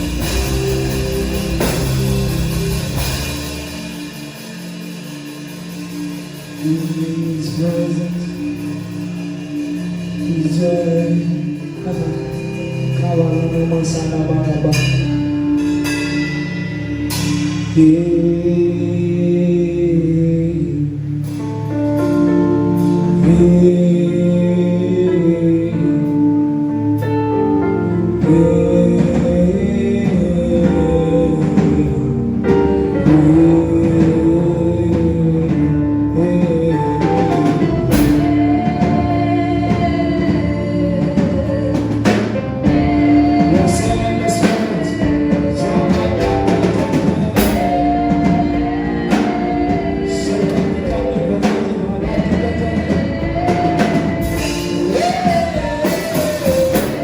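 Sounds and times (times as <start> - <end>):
gospel singing with band: 0.0 - 57.0.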